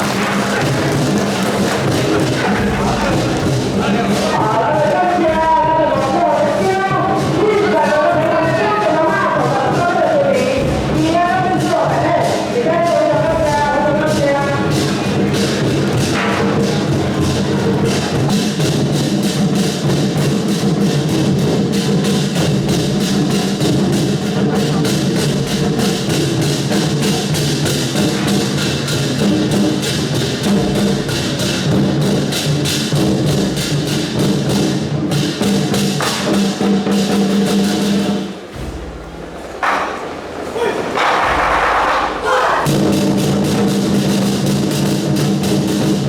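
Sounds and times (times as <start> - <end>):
percussion procession music: 0.0 - 46.0.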